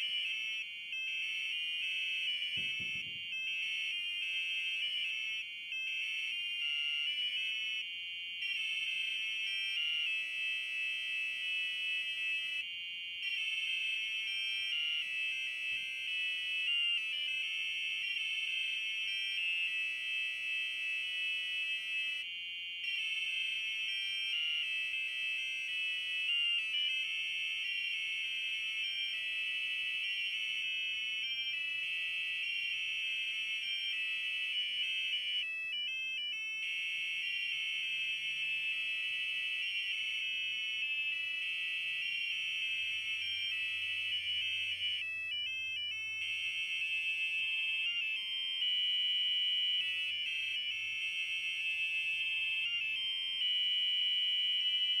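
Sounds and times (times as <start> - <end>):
buzzers beeping a melody: 0.0 - 55.0.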